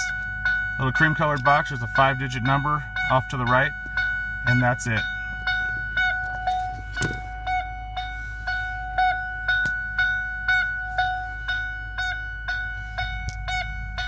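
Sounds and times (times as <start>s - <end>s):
car warning chime dinging: 0.0s - 14.0s.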